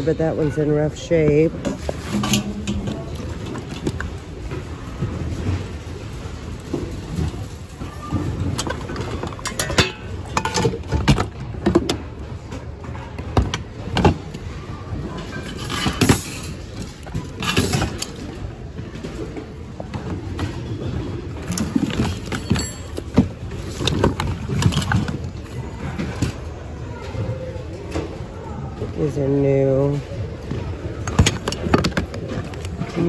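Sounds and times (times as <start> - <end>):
household goods clattering: 0.0 - 28.4, 29.0 - 33.0.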